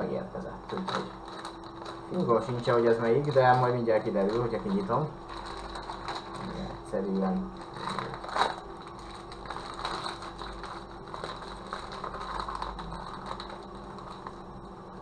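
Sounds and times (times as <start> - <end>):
plastic mailer bag tearing: 0.6 - 14.5
plastic crackling and rustling: 0.6 - 15.0.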